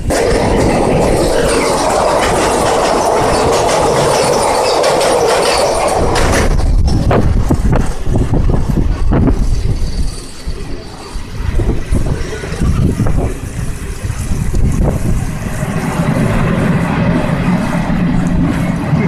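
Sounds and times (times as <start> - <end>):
train rushing at speed: 0.0 - 19.0
train wheels clattering: 0.0 - 19.0.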